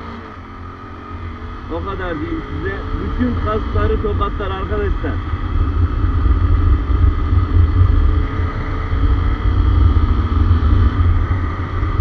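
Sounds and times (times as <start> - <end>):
motorcycle engine accelerating: 0.0 - 12.0
wind rumble on microphone: 1.1 - 12.0.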